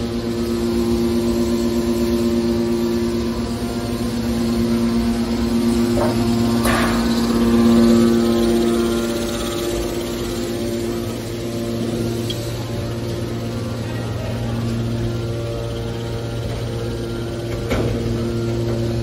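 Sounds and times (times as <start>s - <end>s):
hydraulic baler motors humming: 0.0s - 19.0s.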